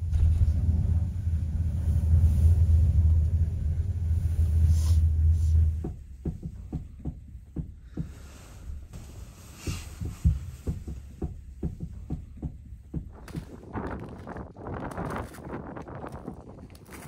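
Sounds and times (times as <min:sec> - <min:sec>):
gondola cabin rumble: 0:00.0 - 0:17.0
soft low thumps: 0:00.0 - 0:17.0.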